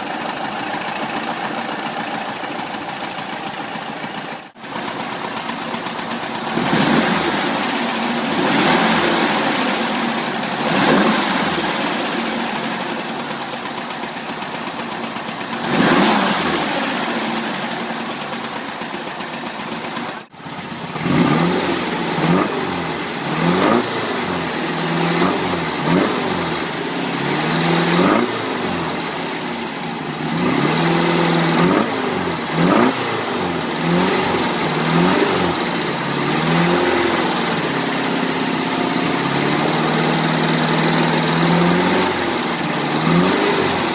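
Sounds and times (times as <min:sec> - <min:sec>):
car engine revving: 0:04.6 - 0:19.0, 0:19.8 - 0:43.9.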